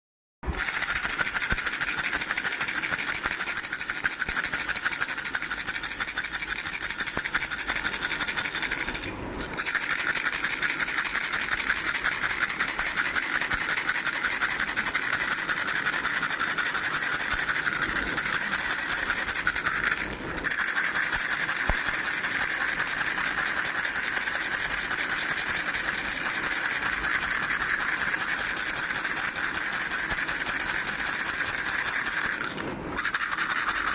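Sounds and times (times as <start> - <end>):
baby rattle shaking: 0.5 - 33.9.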